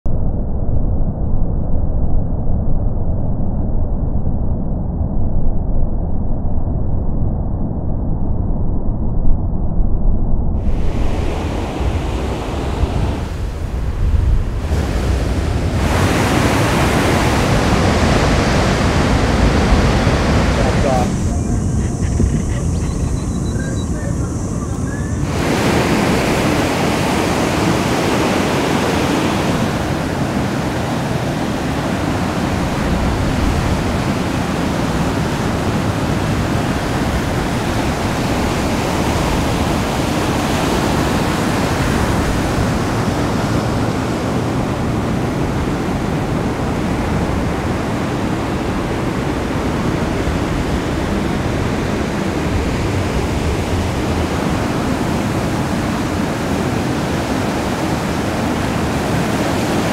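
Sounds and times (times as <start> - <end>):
ocean waves breaking: 10.6 - 59.9.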